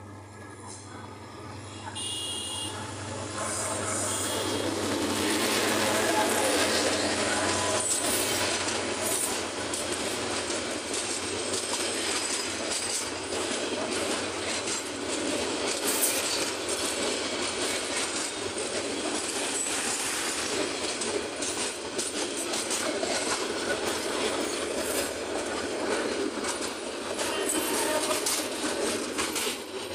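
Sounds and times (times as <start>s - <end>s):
train wheels rumbling on rails: 0.0s - 29.9s.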